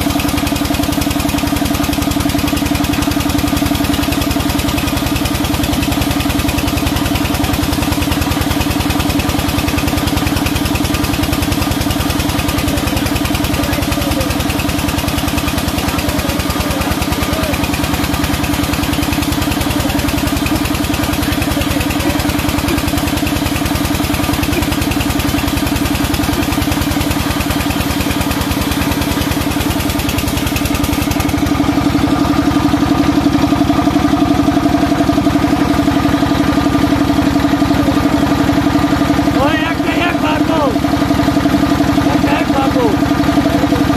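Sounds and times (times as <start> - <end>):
sawmill machinery drone: 0.0 - 43.9.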